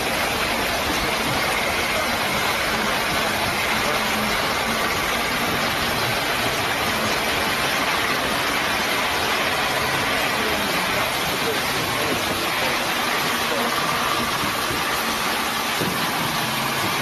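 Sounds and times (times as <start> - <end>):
river water rushing: 0.0 - 17.0
truck engine running: 0.0 - 17.0.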